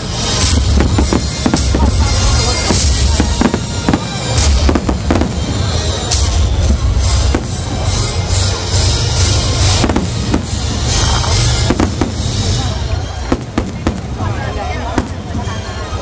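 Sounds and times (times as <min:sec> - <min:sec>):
fireworks cracks and bangs: 0:00.0 - 0:16.0.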